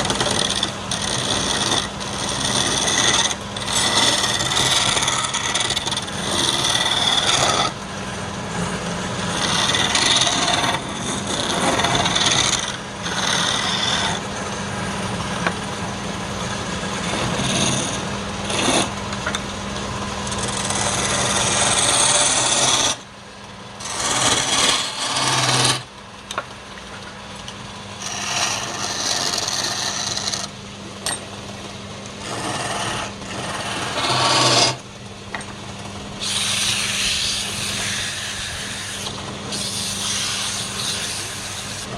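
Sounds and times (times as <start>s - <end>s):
tool scraping spinning wood: 0.0s - 19.4s, 20.2s - 23.0s, 23.8s - 25.9s, 28.0s - 41.9s
wood lathe motor hum: 0.0s - 19.4s, 20.2s - 23.0s, 23.8s - 25.9s, 28.0s - 30.5s, 32.2s - 41.9s.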